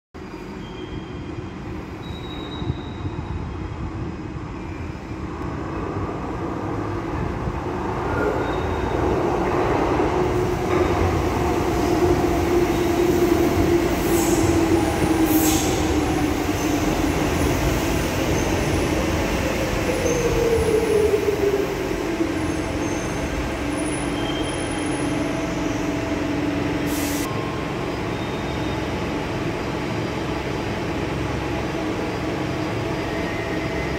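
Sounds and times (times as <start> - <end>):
electric train arriving: 0.2 - 33.9
train standing with steady hum: 0.2 - 33.9.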